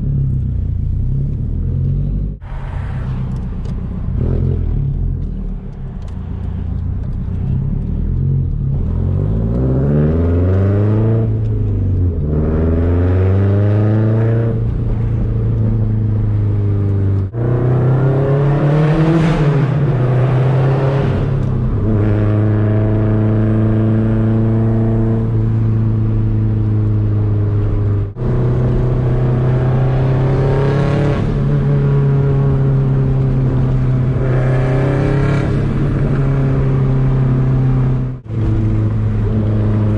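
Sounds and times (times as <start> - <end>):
car exhaust accelerating: 0.0 - 39.9.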